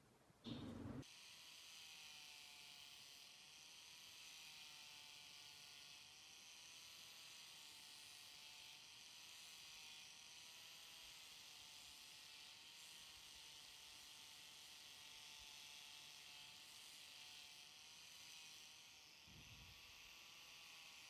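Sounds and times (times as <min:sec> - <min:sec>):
faint angle grinder sanding wood: 0:01.0 - 0:21.0.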